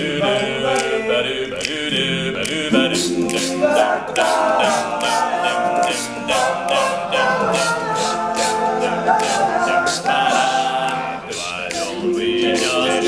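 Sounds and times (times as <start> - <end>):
men singing a cappella harmony: 0.0 - 13.0
vocal percussion beat: 0.0 - 13.0.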